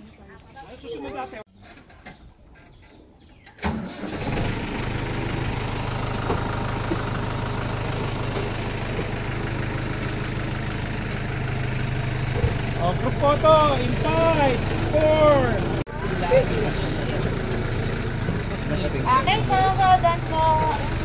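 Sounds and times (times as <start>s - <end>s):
vehicle engine starting and idling: 3.5s - 21.0s.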